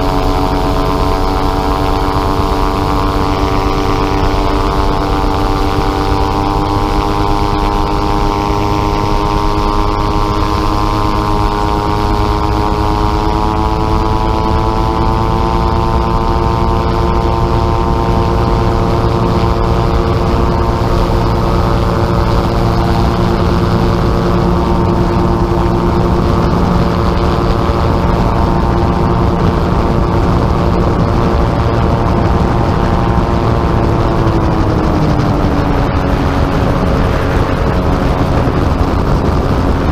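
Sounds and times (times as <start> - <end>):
gyrocopter engine and propeller: 0.0 - 39.9
rushing noise: 0.0 - 39.9.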